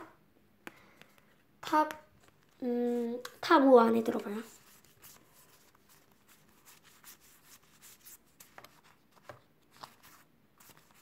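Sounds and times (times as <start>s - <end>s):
paper sticker sheets rustling: 2.2s - 11.0s.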